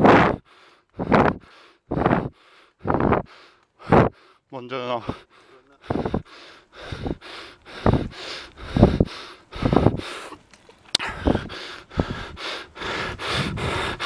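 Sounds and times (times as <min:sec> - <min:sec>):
person panting heavily: 0:00.0 - 0:04.4, 0:05.0 - 0:10.4, 0:11.0 - 0:14.0.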